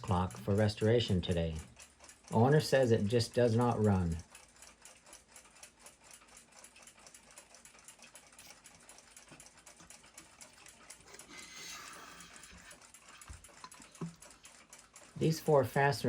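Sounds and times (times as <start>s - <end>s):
fast regular ticking: 0.0s - 16.0s.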